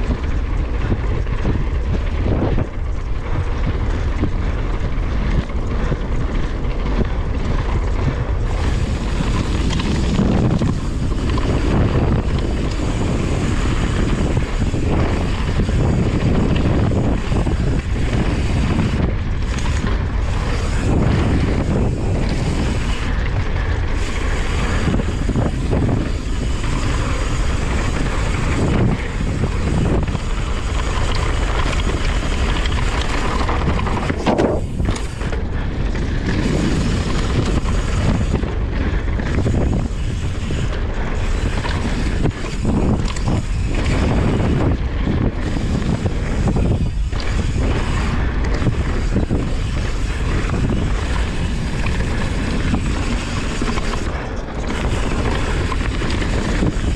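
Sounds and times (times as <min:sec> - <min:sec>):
tyres rolling on gravel: 0:00.0 - 0:56.9
wind buffeting microphone: 0:00.0 - 0:56.9.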